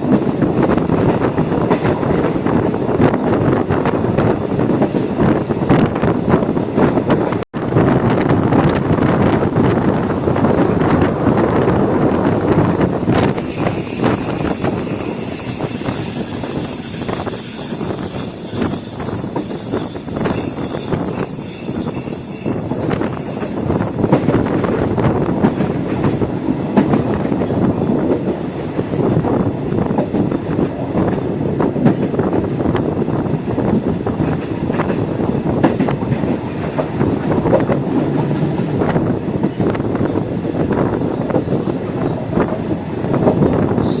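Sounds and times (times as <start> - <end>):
rail clicks: 0.0 - 44.0
train wheels rumbling on track: 0.0 - 44.0.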